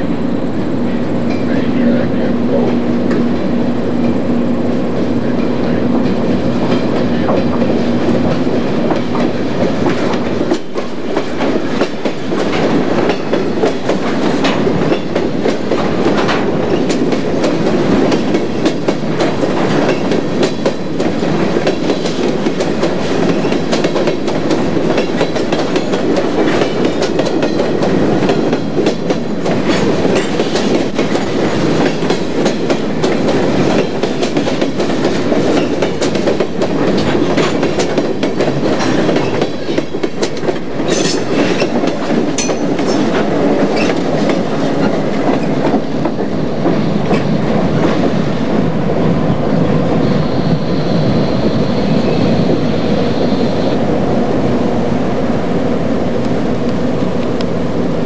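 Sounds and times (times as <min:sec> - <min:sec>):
train wheels clattering on rails: 0:00.0 - 0:54.6
diesel locomotive engine: 0:00.0 - 0:58.0.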